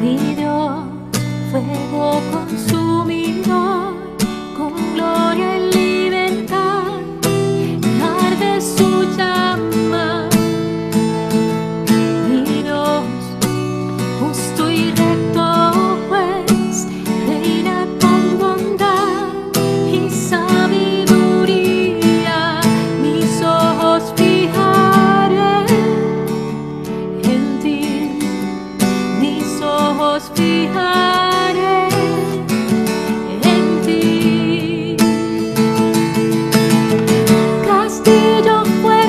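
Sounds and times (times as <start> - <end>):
woman singing with vibrato: 0.0 - 10.7, 12.0 - 13.4, 14.1 - 26.2, 27.1 - 36.2, 37.4 - 39.0
acoustic guitar strumming: 0.0 - 39.0.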